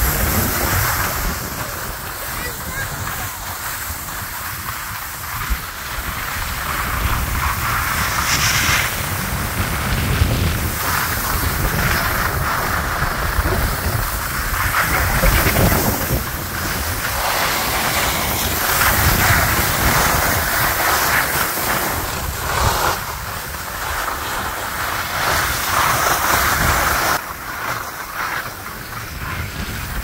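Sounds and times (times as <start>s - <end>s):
wind buffeting microphone: 0.0s - 27.2s
skis sliding on snow: 0.0s - 30.0s.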